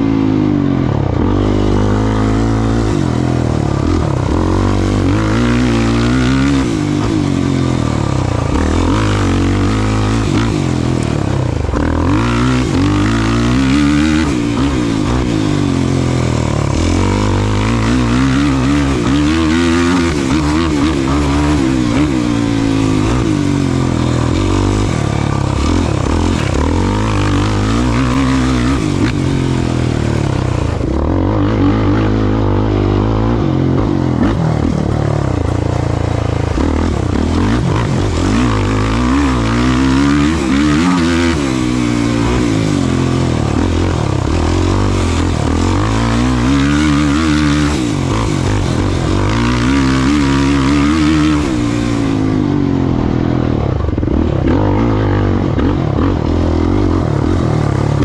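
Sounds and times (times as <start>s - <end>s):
race vehicle engine revving: 0.0s - 58.0s.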